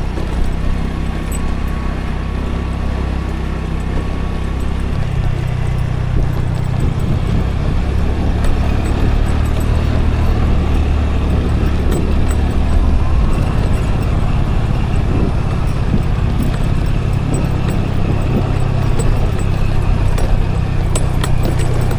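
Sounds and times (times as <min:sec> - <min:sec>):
scooter engine running: 0:00.0 - 0:21.9
wind and road noise: 0:00.0 - 0:21.9.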